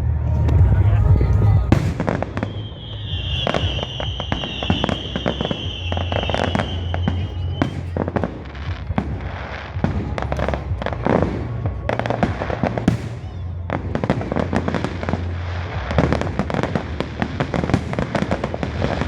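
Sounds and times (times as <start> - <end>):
fireworks bangs and crackling: 0.4 - 19.0
whistling firework: 1.7 - 19.0.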